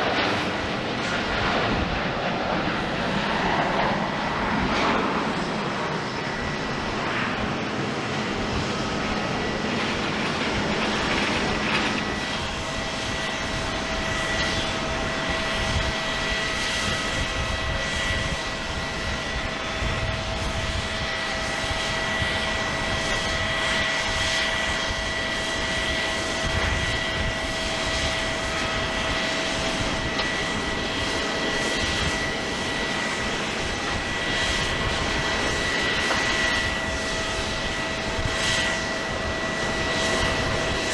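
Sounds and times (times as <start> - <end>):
jet engines running: 0.0 - 40.9
lower whine: 0.0 - 40.9.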